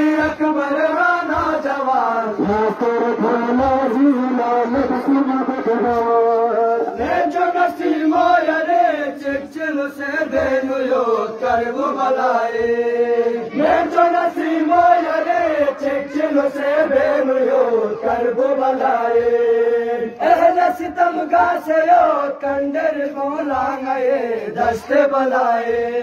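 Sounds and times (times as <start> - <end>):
men chanting a mourning lament: 0.0 - 26.0.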